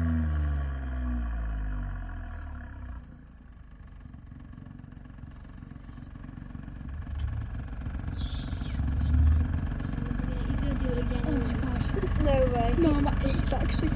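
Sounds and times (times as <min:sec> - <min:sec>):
car engine revving and idling: 0:00.0 - 0:13.9.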